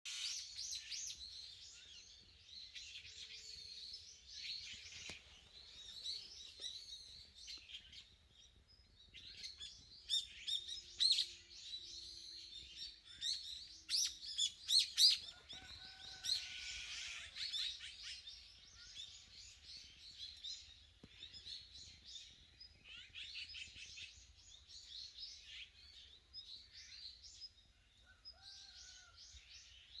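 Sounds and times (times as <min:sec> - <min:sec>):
songbirds chirping: 0:00.1 - 0:30.0.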